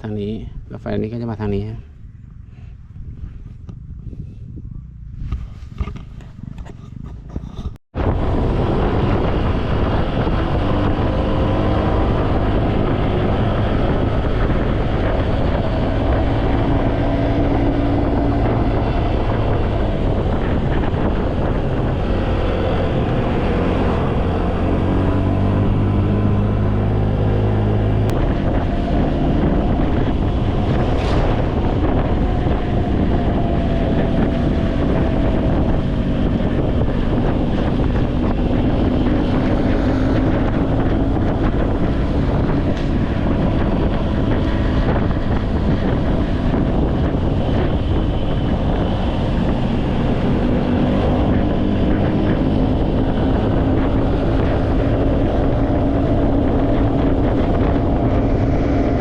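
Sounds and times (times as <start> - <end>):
wind buffeting microphone: 0.0 - 59.0
engine running: 3.6 - 59.0.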